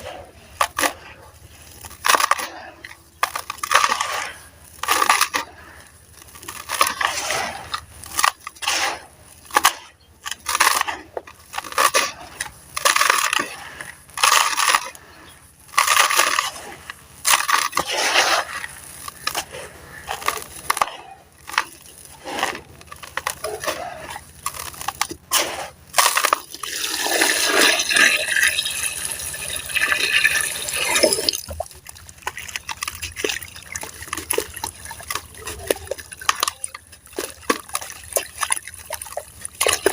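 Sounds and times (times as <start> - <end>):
cement pieces crunching: 0.0 - 39.9.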